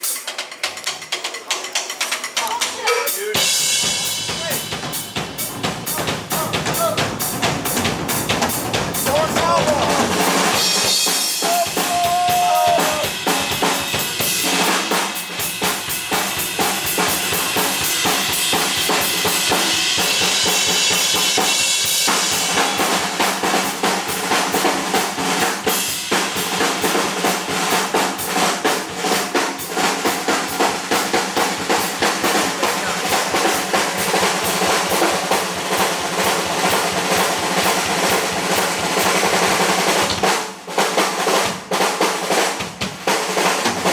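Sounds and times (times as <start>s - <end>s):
drum kit played fast: 0.0s - 43.9s
heavy metal band playing: 2.3s - 43.9s.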